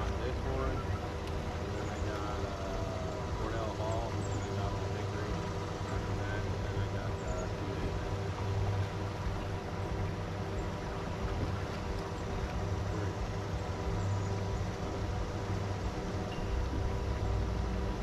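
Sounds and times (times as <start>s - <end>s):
electric trolling motor humming: 0.0s - 18.0s.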